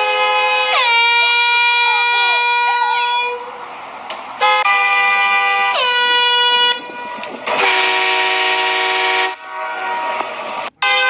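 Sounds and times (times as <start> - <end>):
air horn blasting: 0.0 - 3.5, 4.4 - 11.0.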